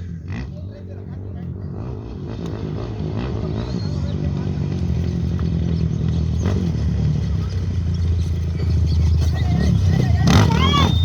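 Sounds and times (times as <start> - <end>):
motorcycle engine approaching: 0.0 - 11.0.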